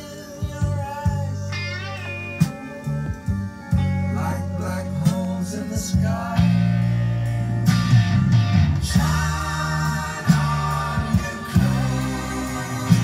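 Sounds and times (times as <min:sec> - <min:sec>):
song with guitar and singing: 0:00.0 - 0:13.0.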